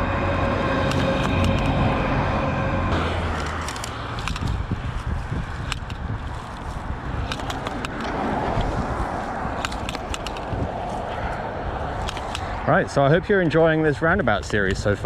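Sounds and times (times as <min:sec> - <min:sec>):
road traffic rushing past: 0:00.0 - 0:14.4.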